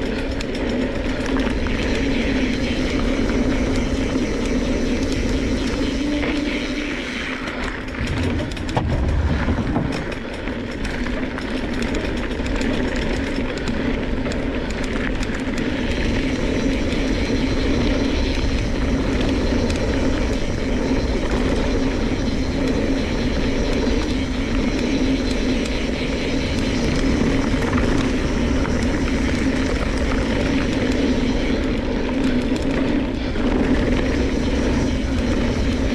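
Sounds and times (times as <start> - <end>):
wind on microphone: 0.0 - 12.2, 13.2 - 35.9
bike tyres crunching on gravel: 0.0 - 35.5
steady hum: 0.0 - 35.9.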